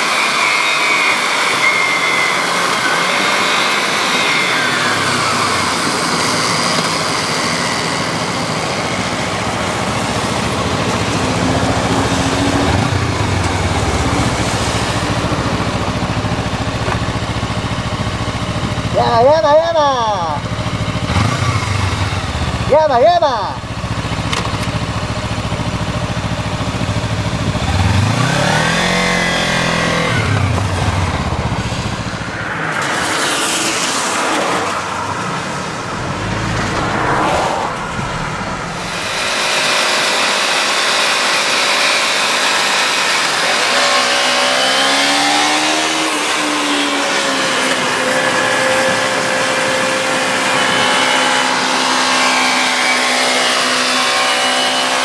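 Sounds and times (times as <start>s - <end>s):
engine accelerating: 0.0s - 55.0s
motorcycle engine revving: 0.0s - 55.0s
traffic on a wet road: 0.0s - 55.0s.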